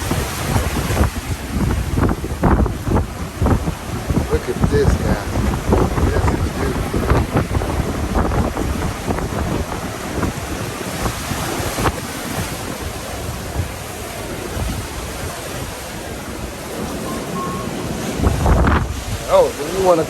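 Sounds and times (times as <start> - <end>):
ocean surf washing in: 0.0 - 20.0
wind buffeting microphone: 0.0 - 20.0.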